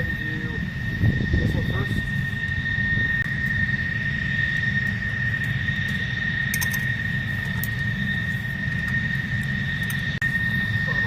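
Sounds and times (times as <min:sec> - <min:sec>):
jet aircraft whine and rumble: 0:00.0 - 0:11.0.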